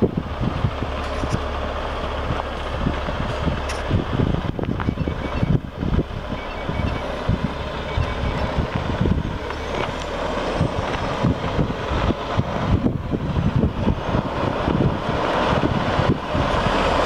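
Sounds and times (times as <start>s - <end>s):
tires on gravel: 0.0s - 17.0s
truck diesel engine running: 0.0s - 17.0s.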